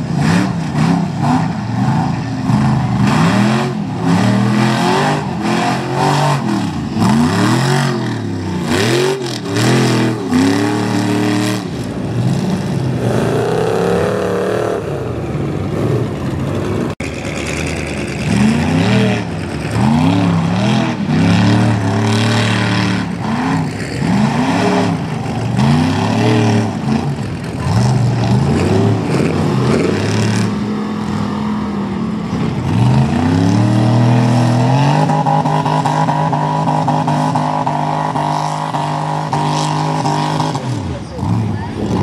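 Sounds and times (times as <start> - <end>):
truck engine revving: 0.0 - 42.0.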